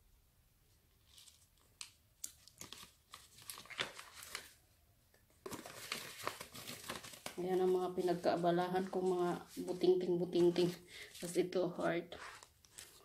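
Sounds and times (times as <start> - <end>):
paper cards rustling: 0.9 - 4.6, 5.3 - 13.0.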